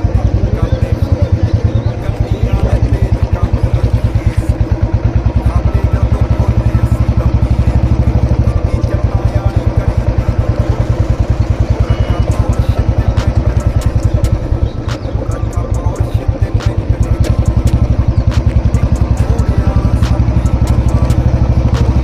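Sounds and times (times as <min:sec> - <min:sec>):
motorcycle engine thumping: 0:00.0 - 0:22.0.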